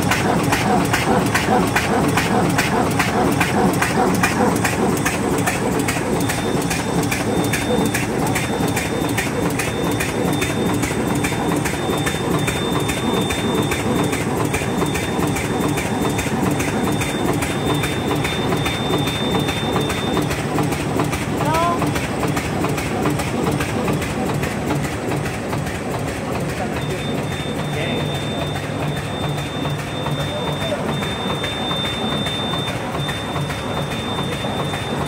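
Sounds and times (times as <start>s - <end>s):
machine clacking: 0.0s - 35.0s
motors and rollers humming: 0.0s - 35.0s.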